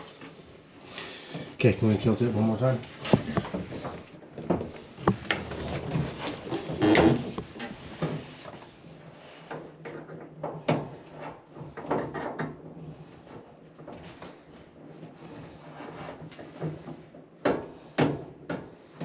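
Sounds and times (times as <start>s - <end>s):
dryer knocking and scraping: 1.6s - 19.0s.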